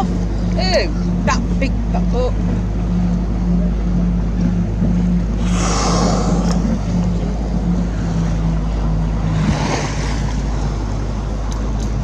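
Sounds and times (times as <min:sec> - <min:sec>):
boat engine humming: 0:00.0 - 0:12.0
water wash: 0:00.0 - 0:12.0.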